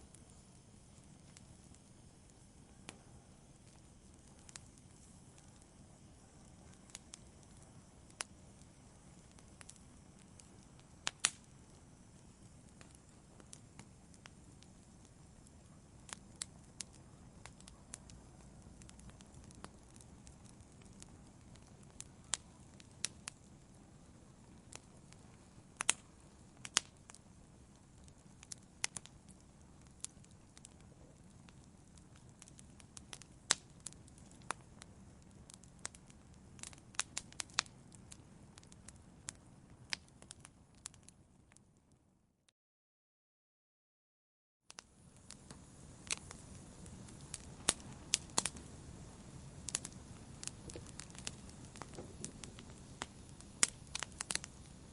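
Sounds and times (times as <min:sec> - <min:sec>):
wood fire crackling: 0:00.0 - 0:42.0, 0:44.7 - 0:54.9.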